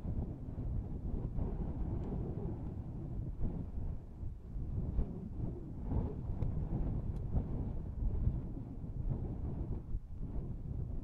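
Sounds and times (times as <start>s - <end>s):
wind blowing in gusts: 0.0s - 11.0s.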